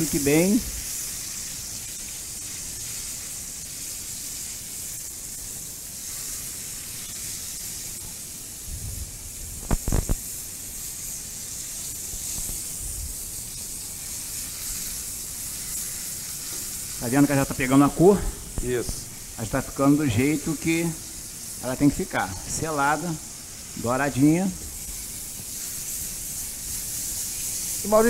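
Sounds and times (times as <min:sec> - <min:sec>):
meat sizzling in a frying pan: 0:00.0 - 0:28.0.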